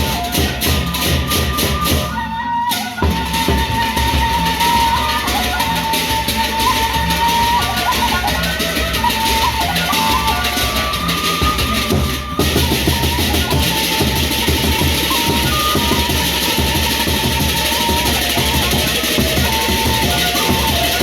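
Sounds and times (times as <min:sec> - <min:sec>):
large drums beating: 0:00.0 - 0:02.3, 0:03.0 - 0:21.0
cymbals: 0:00.0 - 0:21.0
high melody line: 0:03.0 - 0:21.0.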